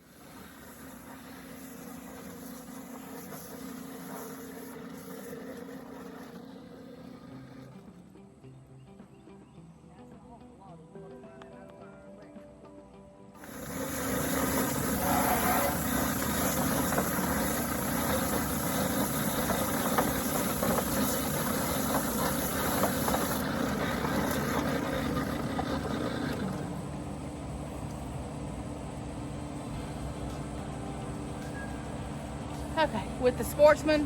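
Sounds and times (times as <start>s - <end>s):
motor humming: 0.0s - 8.3s, 13.4s - 34.0s.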